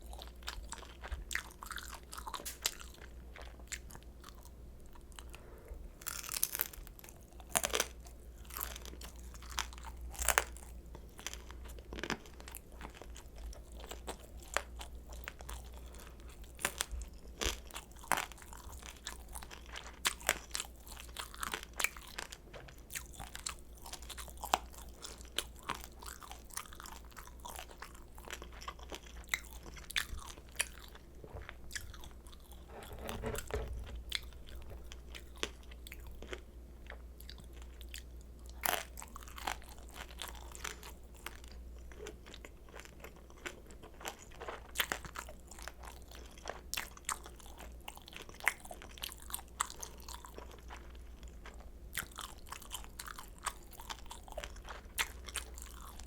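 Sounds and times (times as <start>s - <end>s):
chewing crispy dumplings: 0.0s - 56.0s.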